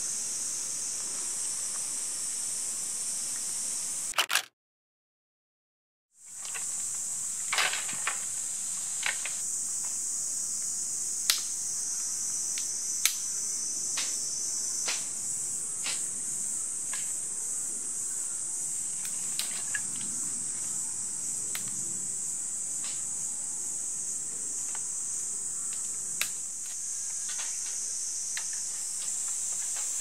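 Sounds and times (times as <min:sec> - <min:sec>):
high-pitched insect chorus: 0:00.0 - 0:04.1, 0:06.2 - 0:30.0.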